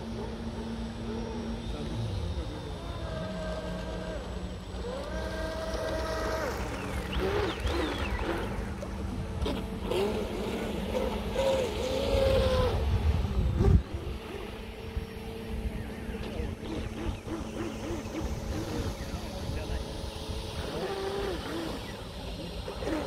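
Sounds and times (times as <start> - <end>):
model boat motors whining: 0.0 - 23.0
steady low hum: 0.0 - 23.0.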